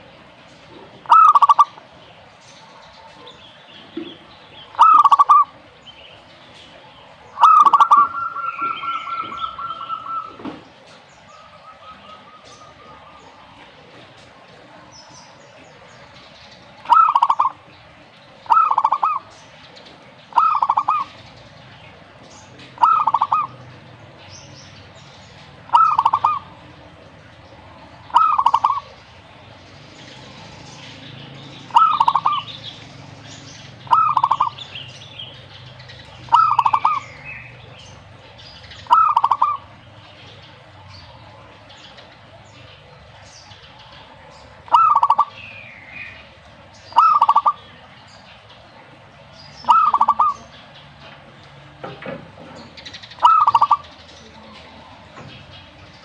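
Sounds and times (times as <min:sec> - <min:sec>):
dove cooing: 0:00.0 - 0:05.8, 0:06.8 - 0:21.4, 0:22.0 - 0:33.0, 0:33.6 - 0:51.3, 0:52.6 - 0:55.2.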